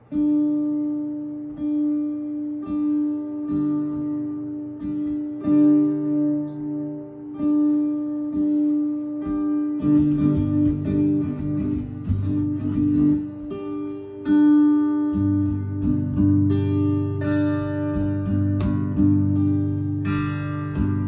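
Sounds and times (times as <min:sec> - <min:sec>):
acoustic guitar: 0:00.0 - 0:21.0.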